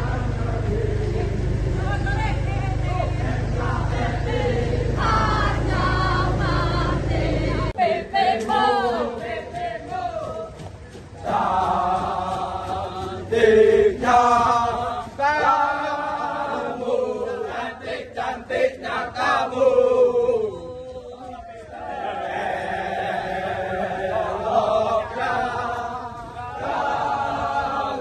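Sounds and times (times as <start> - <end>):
group chanting a jogging song: 0.0 - 28.0
low steady rumble: 0.0 - 28.0.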